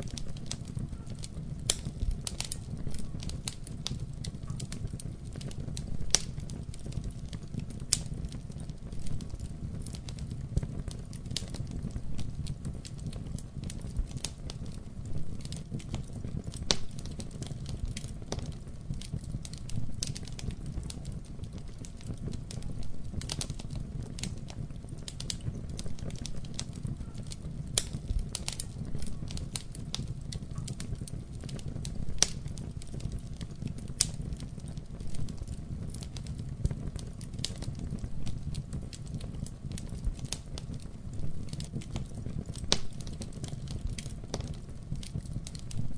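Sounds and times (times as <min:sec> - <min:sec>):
fire crackles and pops: 0:00.0 - 0:45.9
wood fire burning: 0:00.0 - 0:45.9.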